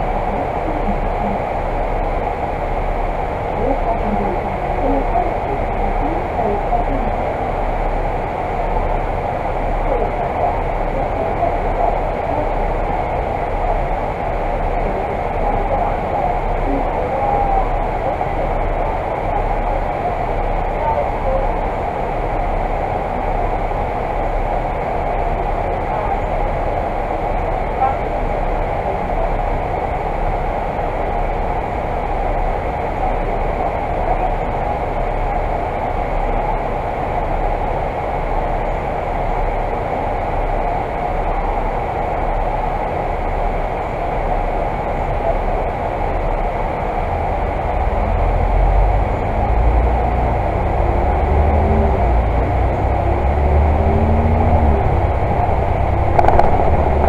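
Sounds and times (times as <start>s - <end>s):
bus engine rumble: 0.0s - 57.0s
bus engine whine accelerating: 0.0s - 57.0s.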